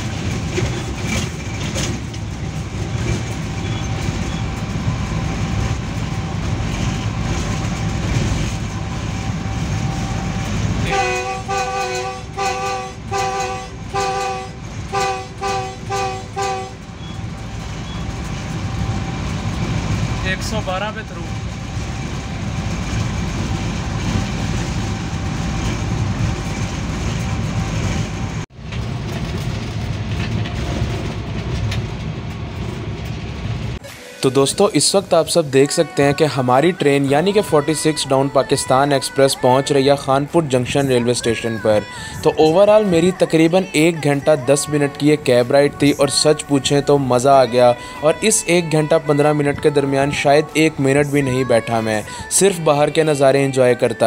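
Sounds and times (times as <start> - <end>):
locomotive engine rumble: 0.0 - 54.0
wheels on rail: 0.0 - 54.0.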